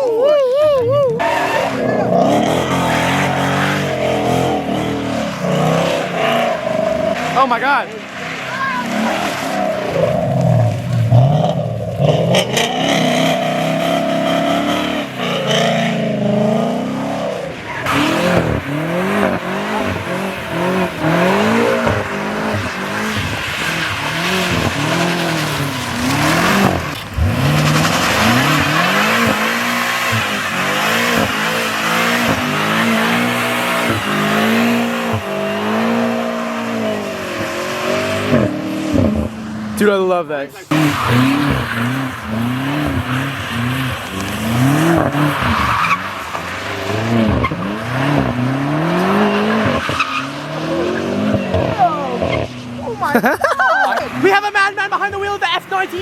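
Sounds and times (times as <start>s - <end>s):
car engine revving: 0.0s - 56.0s
tires squealing: 0.0s - 56.0s.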